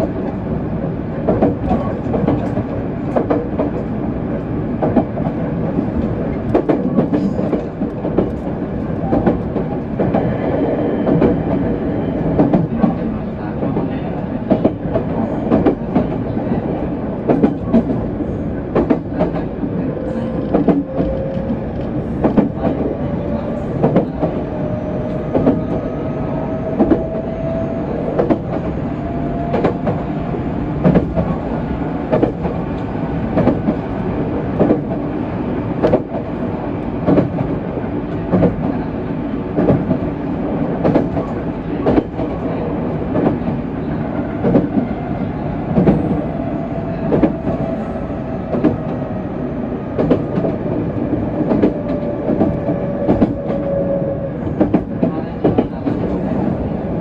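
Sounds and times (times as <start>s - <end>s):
train running gear rumble: 0.0s - 57.0s.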